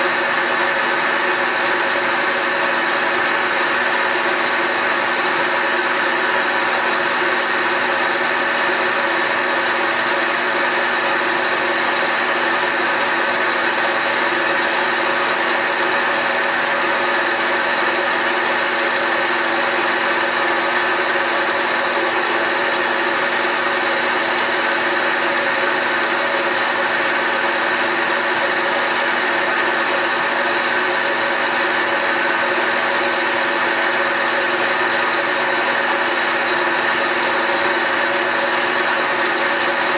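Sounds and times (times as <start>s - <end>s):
lathe motor whining: 0.0s - 39.9s.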